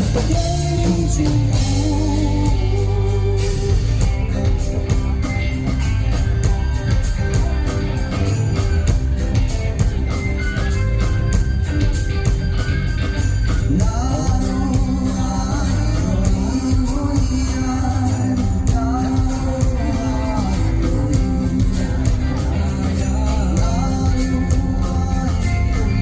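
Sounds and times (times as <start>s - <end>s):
bending lead guitar melody: 0.0s - 26.0s
live rock band playing: 0.0s - 26.0s.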